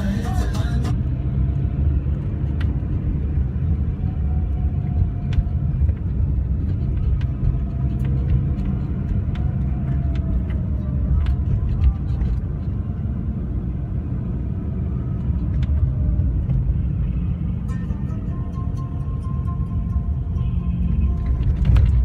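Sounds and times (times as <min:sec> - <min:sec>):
vehicles rumbling: 0:00.0 - 0:22.0.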